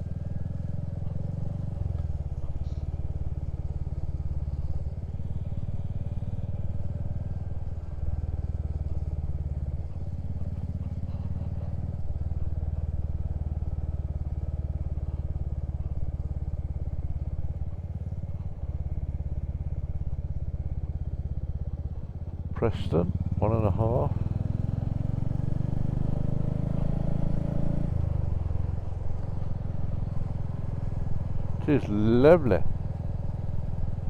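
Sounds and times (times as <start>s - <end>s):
motorcycle engine rumble: 0.0s - 34.0s.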